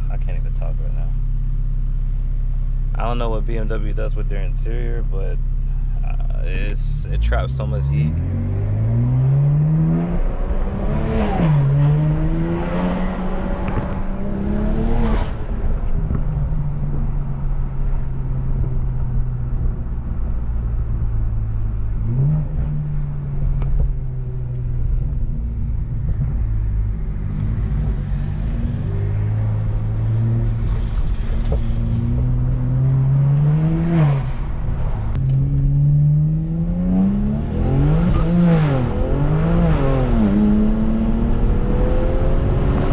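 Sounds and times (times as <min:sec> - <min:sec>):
car engine accelerating through gears: 0:06.0 - 0:42.9.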